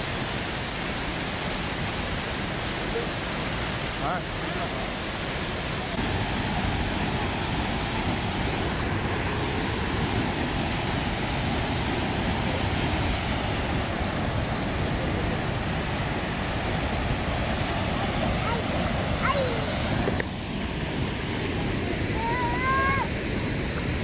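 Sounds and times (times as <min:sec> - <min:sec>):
waterfall rushing into pool: 0:00.0 - 0:24.0.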